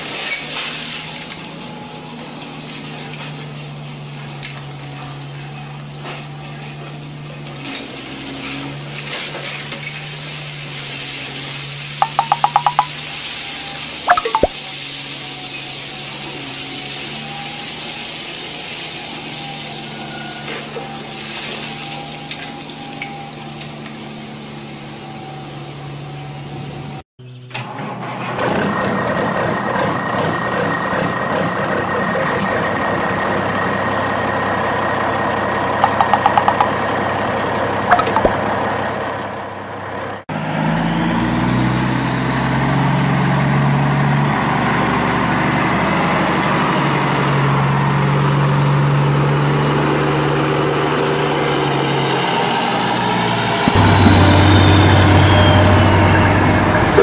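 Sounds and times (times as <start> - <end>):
heavy truck engine running: 0.0 - 57.0.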